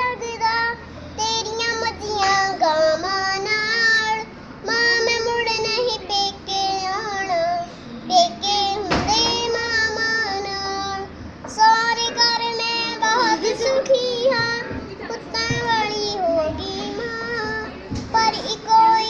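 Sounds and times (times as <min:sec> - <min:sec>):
child singing in high voice: 0:00.0 - 0:07.6, 0:08.2 - 0:19.0.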